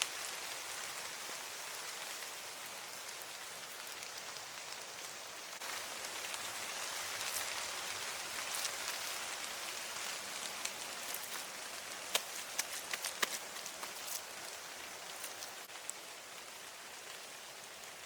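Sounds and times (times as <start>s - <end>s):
rain falling: 0.0s - 18.0s
sharp single raindrops: 0.0s - 18.0s.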